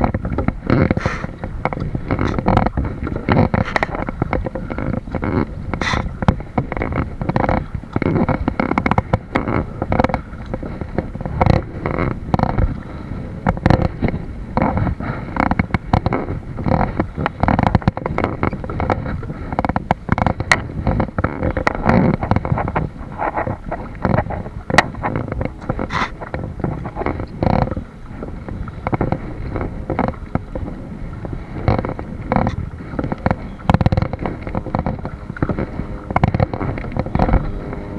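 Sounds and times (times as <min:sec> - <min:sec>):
water splashing against kayak: 0:00.0 - 0:37.9
wind rumbling on microphone: 0:00.0 - 0:37.9.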